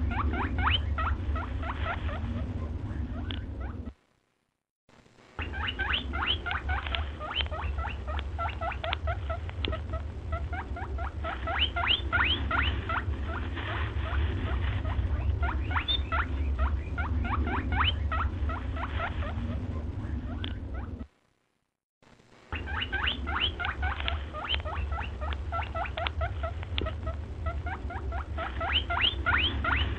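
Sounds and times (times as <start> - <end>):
steady low hum: 0.0 - 29.9
small animal squeaking: 0.1 - 4.0, 5.4 - 21.1, 22.6 - 29.9.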